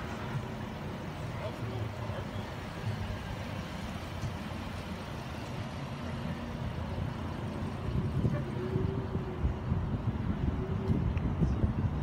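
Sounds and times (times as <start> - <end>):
suv engine idling: 0.0 - 12.0.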